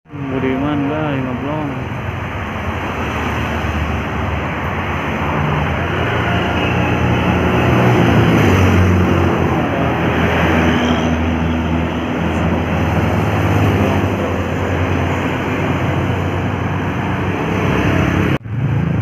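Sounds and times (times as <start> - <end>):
large vehicle engine humming: 0.1 - 19.0
tyre and road noise: 0.1 - 19.0.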